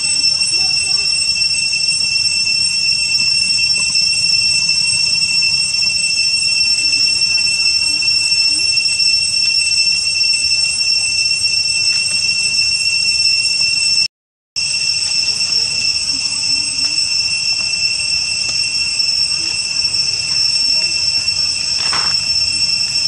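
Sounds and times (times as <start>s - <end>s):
cicadas droning: 0.0s - 14.0s, 14.6s - 23.0s.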